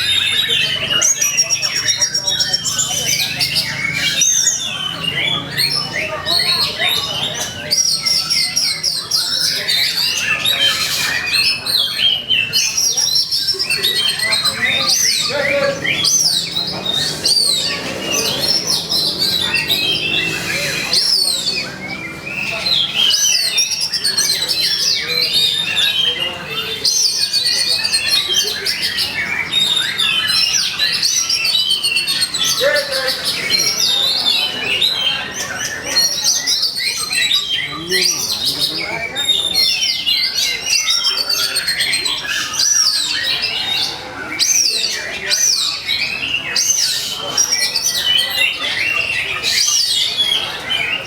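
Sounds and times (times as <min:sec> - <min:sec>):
bird singing whistles and trills: 0:00.0 - 0:51.0.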